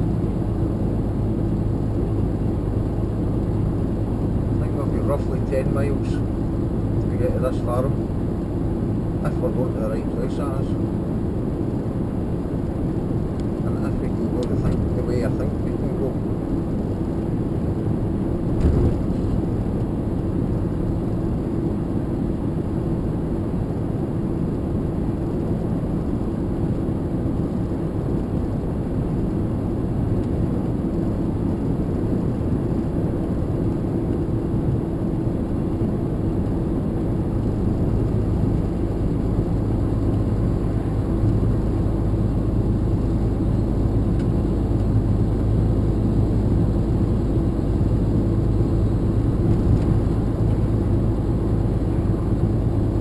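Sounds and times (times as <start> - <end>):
lorry engine and road noise: 0.0 - 53.0.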